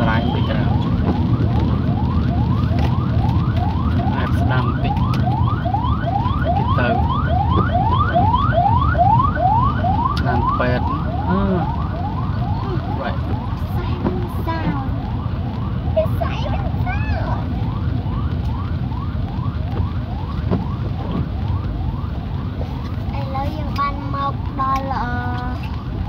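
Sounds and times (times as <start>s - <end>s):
electronic siren yelping: 0.0s - 23.0s
traffic on wet road: 0.0s - 26.0s.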